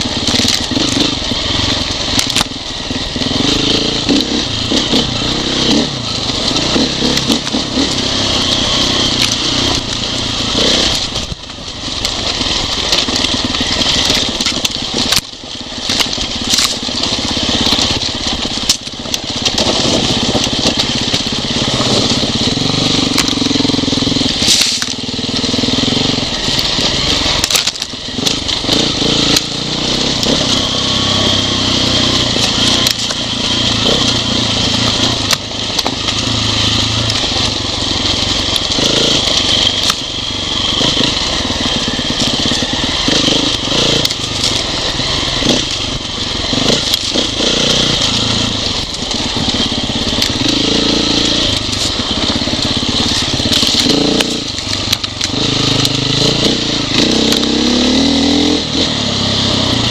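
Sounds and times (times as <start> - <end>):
off-road motorcycle engine: 0.0 - 59.9.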